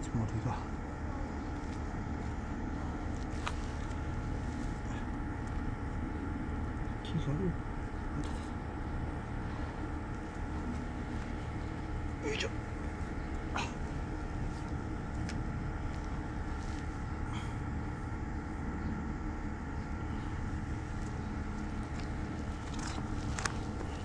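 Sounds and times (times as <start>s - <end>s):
machine hum with steady tones: 0.0s - 24.0s.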